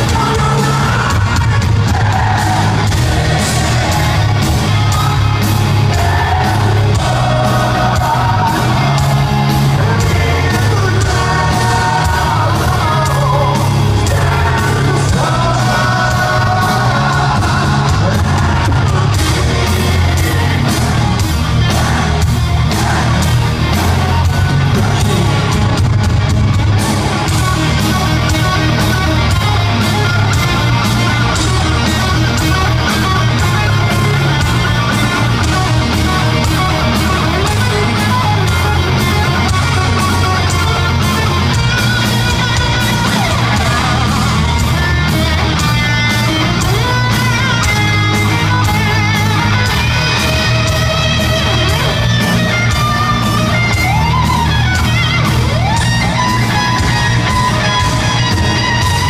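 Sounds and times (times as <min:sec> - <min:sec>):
heavy metal band playing live: 0:00.0 - 0:59.0.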